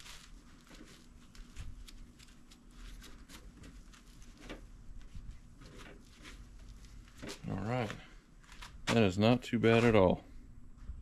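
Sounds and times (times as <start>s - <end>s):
cloth rubbing plastic: 0.0s - 8.9s.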